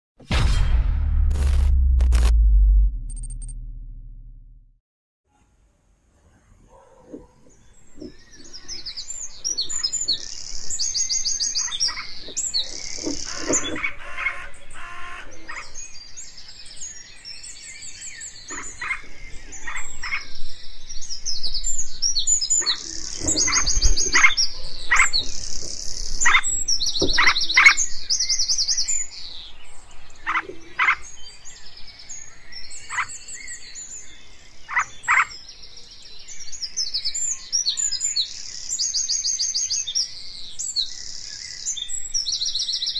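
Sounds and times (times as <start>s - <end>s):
songbirds singing: 6.3s - 42.9s.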